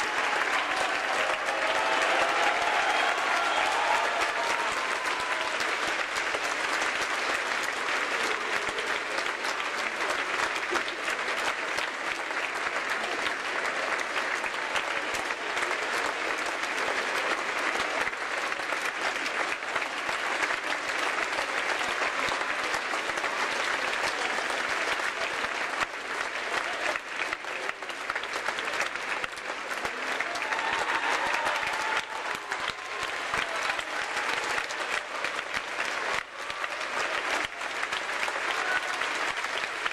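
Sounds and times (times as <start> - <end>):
crowd applauding: 0.0 - 39.9.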